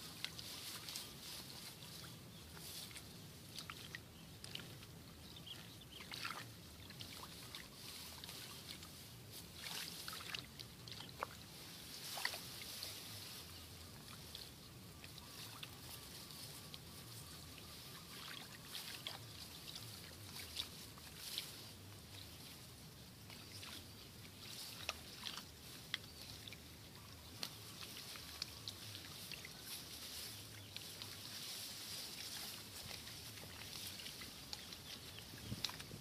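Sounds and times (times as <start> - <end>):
rustling and plucking grass: 0.0 - 36.0
water splashes: 2.5 - 36.0.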